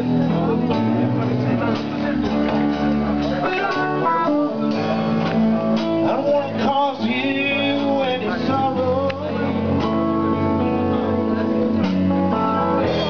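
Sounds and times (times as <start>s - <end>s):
live band music led by guitar: 0.0s - 13.0s.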